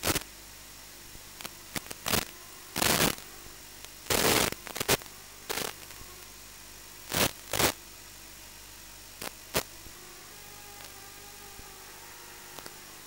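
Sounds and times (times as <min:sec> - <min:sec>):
bursts of crackling static: 0:00.0 - 0:13.0
steady low static hiss: 0:00.0 - 0:13.0.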